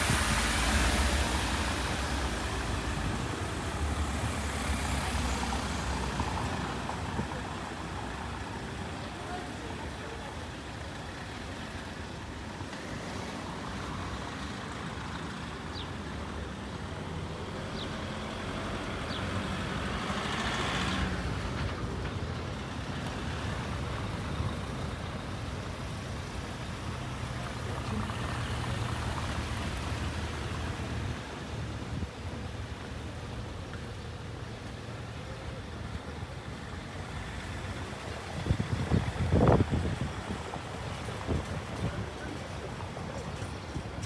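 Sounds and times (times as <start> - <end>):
hum of passing vehicles: 0.0 - 44.0.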